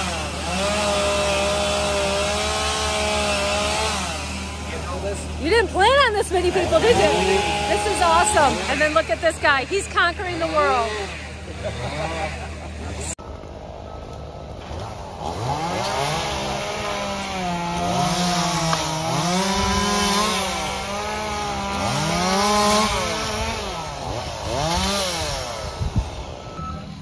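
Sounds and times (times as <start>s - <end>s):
chainsaw revving: 0.0s - 13.2s, 14.5s - 27.0s.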